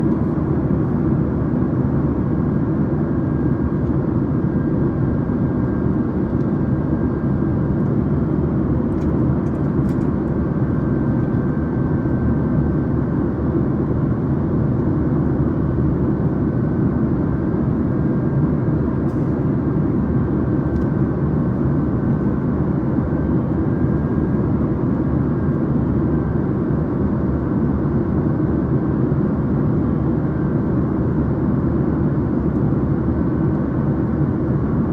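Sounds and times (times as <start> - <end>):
airplane engine drone: 0.0 - 34.9.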